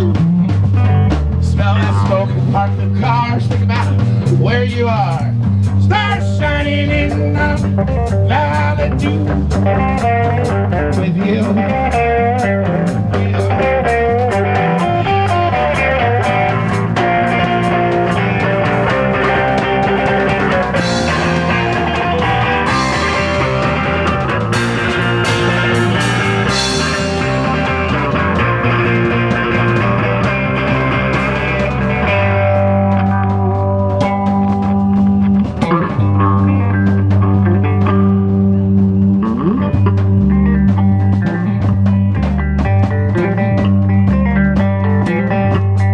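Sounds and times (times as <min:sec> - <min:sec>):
live band playing instrumental: 0:00.0 - 0:45.9.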